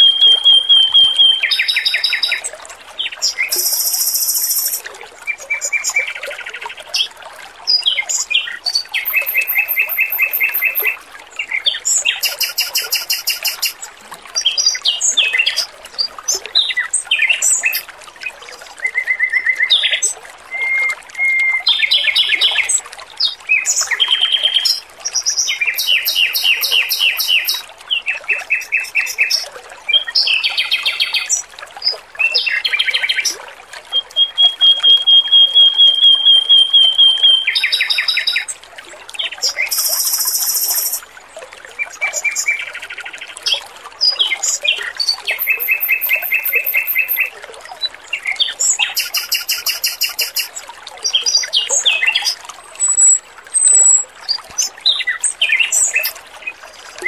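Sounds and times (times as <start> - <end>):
bird singing trilled phrases: 0.0 - 6.2, 7.7 - 13.8, 14.5 - 17.9, 19.0 - 33.3, 33.9 - 38.6, 39.2 - 41.1, 43.4 - 47.3, 48.2 - 57.0
trickling water: 0.0 - 57.0.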